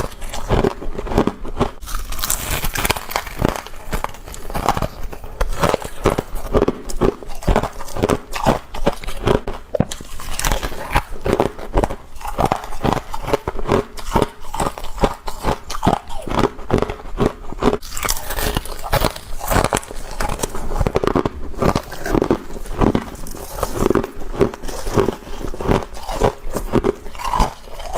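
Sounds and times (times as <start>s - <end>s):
crunchy chewing of frost: 0.0s - 27.9s.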